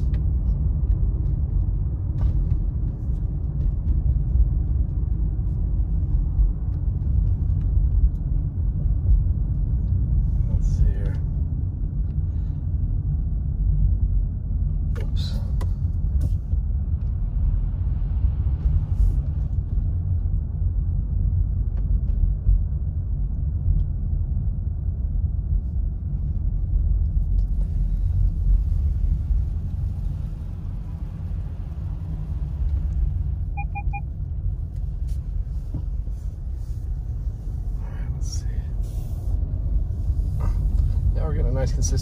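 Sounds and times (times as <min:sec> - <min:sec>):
car driving on snow: 0:00.0 - 0:42.0.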